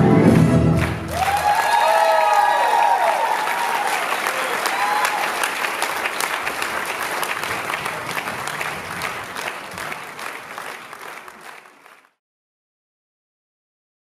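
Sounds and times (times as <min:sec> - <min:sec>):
audience applauding: 0:00.2 - 0:12.2.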